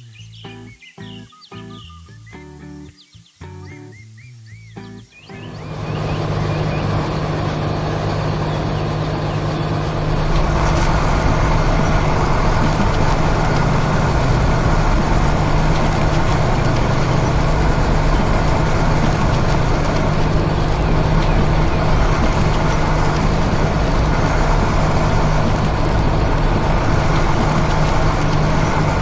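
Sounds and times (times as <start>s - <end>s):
heavy vehicle engine running: 5.4s - 29.0s.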